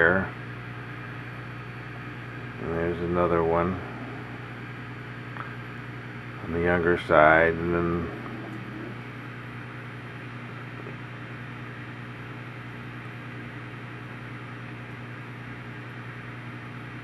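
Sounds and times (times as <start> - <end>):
electric hum: 0.0 - 17.0.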